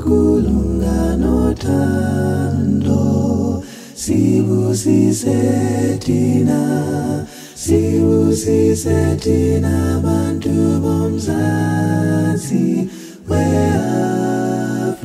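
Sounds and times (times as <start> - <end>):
unaccompanied group singing in harmony: 0.0 - 15.0.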